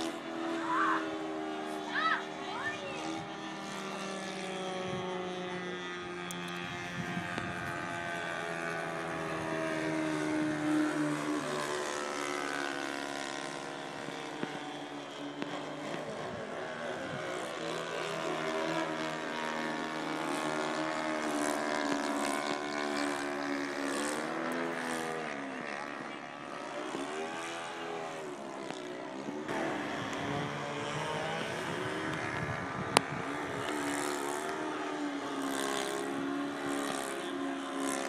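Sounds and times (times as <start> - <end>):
model airplane propellers droning: 0.0 - 38.0.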